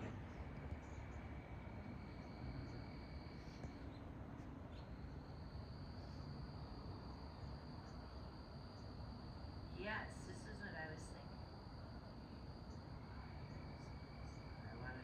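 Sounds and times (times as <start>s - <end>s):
low outdoor rumble: 0.0s - 15.0s
crickets trilling: 0.2s - 15.0s.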